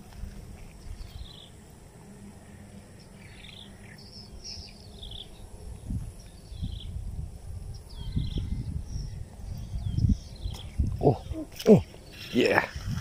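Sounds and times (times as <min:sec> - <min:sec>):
low rumble on the microphone: 0:00.0 - 0:12.0, 0:12.6 - 0:13.0
birds chirping: 0:00.0 - 0:13.0
high insect drone: 0:00.0 - 0:13.0.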